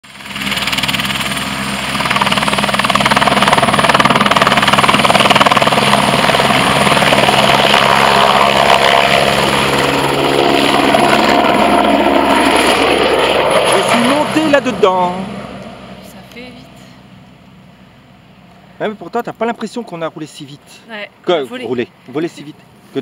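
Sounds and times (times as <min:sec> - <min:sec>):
helicopter flying overhead: 0:00.0 - 0:23.0.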